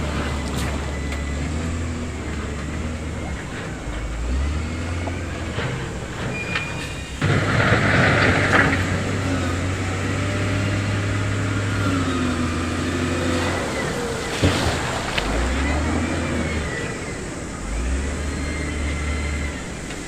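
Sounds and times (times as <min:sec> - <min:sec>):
heavy diesel engine running: 0:00.0 - 0:20.0
rushing noise: 0:00.0 - 0:20.0.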